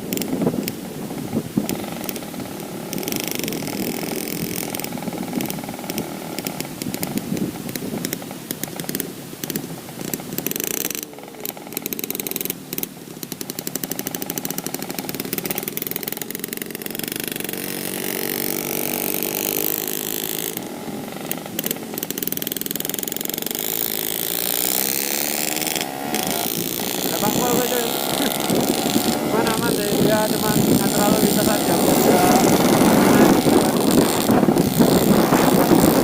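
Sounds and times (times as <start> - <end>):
two-stroke motorcycle engine running: 0.0 - 36.0.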